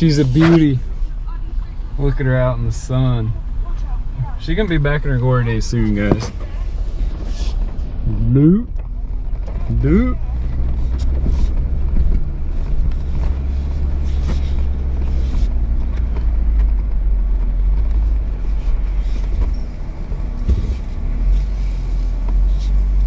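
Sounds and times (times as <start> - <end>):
jeep engine rumble in cabin: 0.0 - 23.0.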